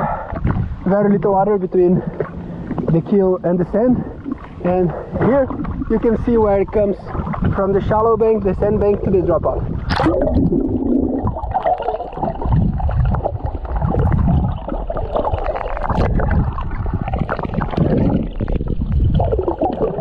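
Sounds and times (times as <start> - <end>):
muffled underwater water sloshing: 0.0 - 20.0.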